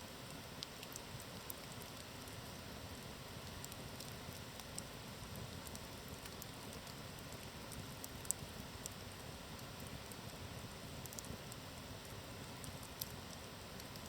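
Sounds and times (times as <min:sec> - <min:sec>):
campfire hissing and crackling: 0:00.0 - 0:14.0.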